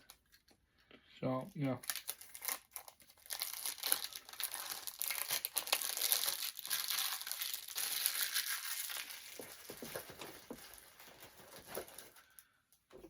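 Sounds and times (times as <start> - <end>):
packaging crinkling: 1.7 - 12.5.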